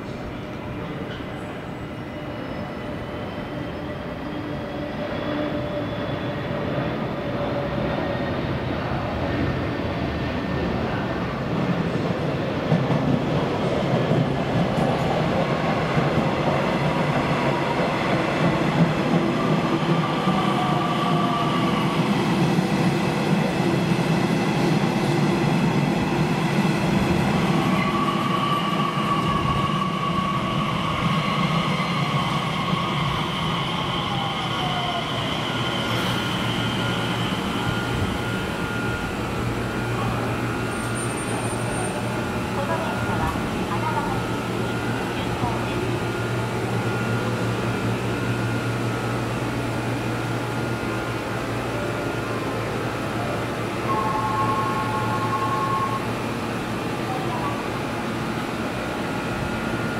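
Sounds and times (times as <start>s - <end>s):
electric train running on rails: 0.0s - 59.9s.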